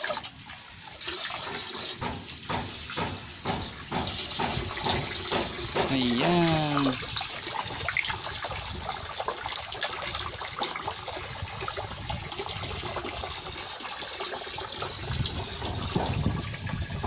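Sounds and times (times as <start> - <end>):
hose water trickling into tank: 0.0 - 17.0.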